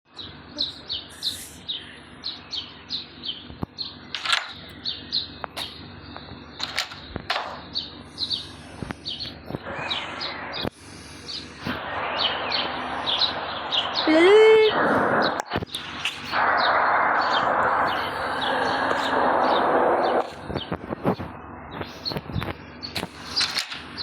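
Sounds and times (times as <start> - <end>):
small bird chirping: 0.1 - 14.6, 15.2 - 24.0.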